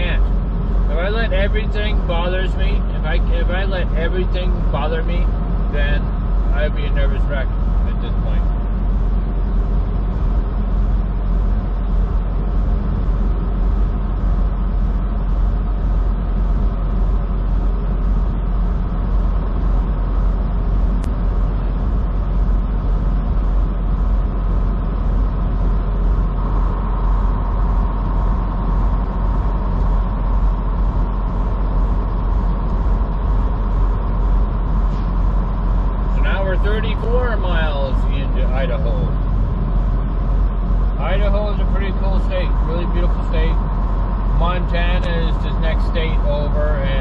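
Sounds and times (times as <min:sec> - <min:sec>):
diesel truck engine drone: 0:00.0 - 0:47.0
faint steady whine: 0:00.0 - 0:47.0.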